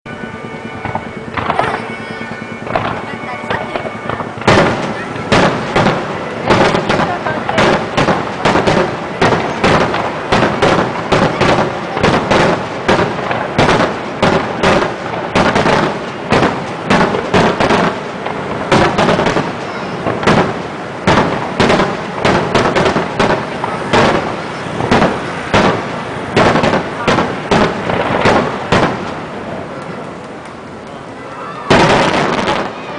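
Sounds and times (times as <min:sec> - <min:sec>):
fireworks bursting with loud bangs: 0:00.1 - 0:32.9.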